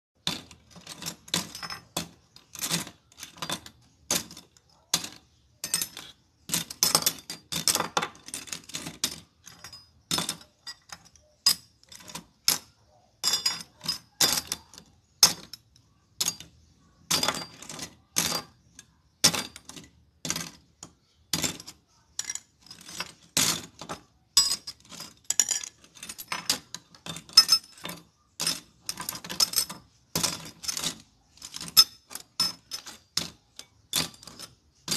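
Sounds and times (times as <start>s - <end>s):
metal hinges clinking: 0.3s - 34.9s.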